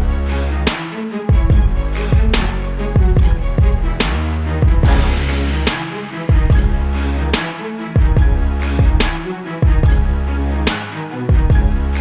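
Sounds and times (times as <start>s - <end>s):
electronic music with bass kicks: 0.0s - 7.4s, 8.0s - 12.0s.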